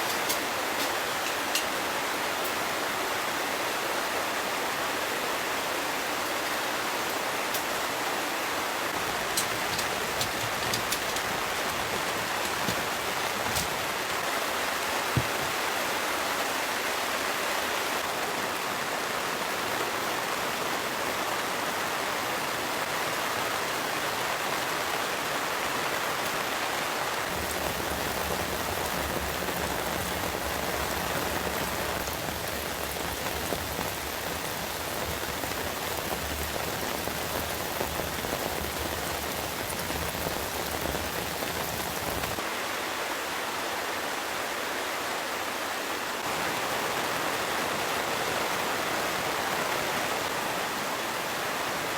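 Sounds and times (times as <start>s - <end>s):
heavy rain on a tent: 0.0s - 51.9s.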